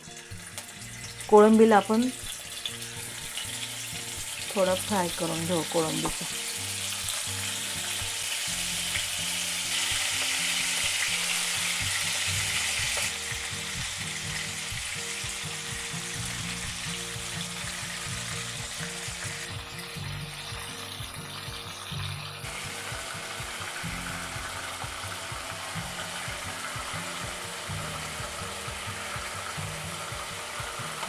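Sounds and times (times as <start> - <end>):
prawns sizzling in hot oil: 0.0 - 31.0.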